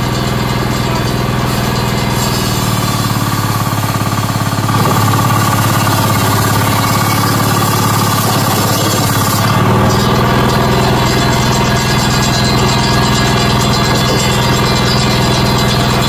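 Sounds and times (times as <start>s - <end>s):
table saw ripping wood: 0.0s - 16.0s.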